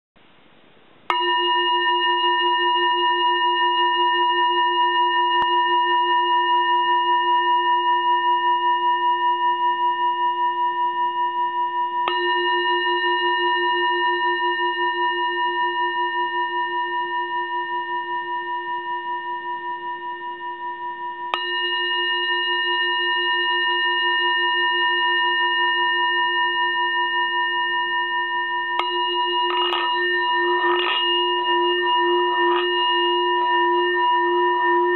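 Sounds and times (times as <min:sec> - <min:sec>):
singing bowl ringing: 0:01.1 - 0:34.9.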